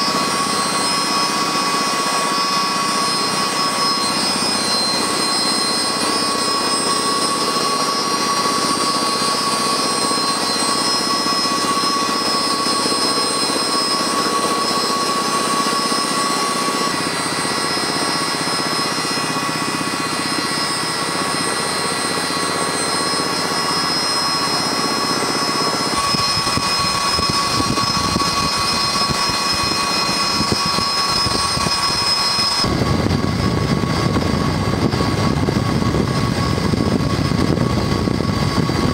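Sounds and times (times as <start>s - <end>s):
deep rough rotor sound: 0.0s - 38.9s
helicopter turbine whine: 0.0s - 38.9s.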